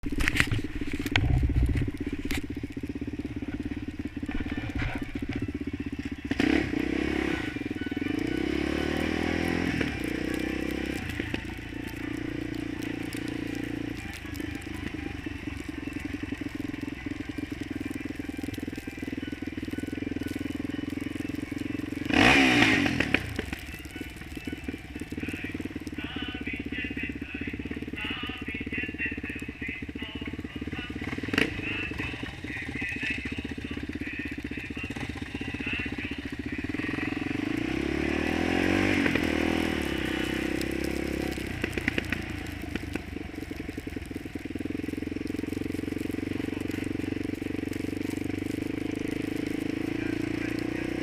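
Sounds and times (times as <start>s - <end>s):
atv engine revving: 0.0s - 51.0s.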